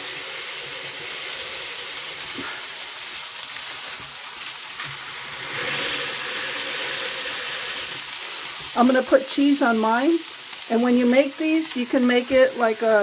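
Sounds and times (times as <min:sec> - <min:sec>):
meat patties sizzling on a griddle: 0:00.0 - 0:13.0.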